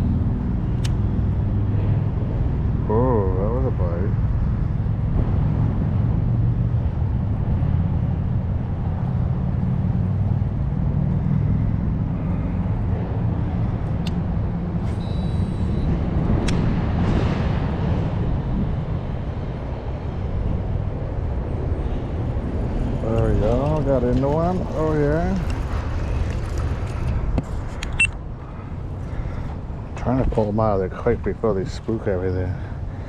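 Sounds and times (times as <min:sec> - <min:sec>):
low rumble: 0:00.0 - 0:31.6.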